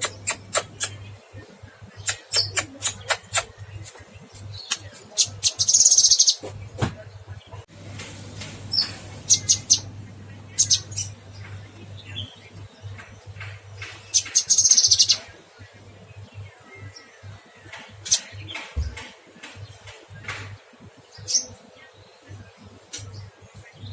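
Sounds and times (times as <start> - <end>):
songbird chirping and trilling: 0.0 - 23.9.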